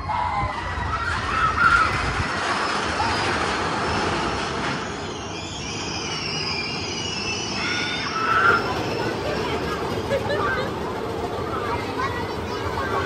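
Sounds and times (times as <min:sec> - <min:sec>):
rail vehicle rumbling: 0:00.0 - 0:13.0
wheels squealing: 0:00.7 - 0:13.0.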